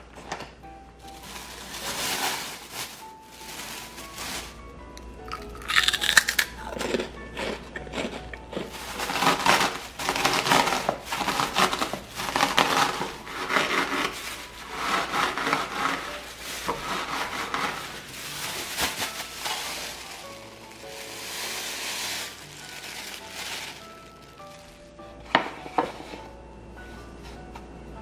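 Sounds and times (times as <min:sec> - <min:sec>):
snacks crunching in plastic bag: 0:01.0 - 0:04.6, 0:05.3 - 0:25.0.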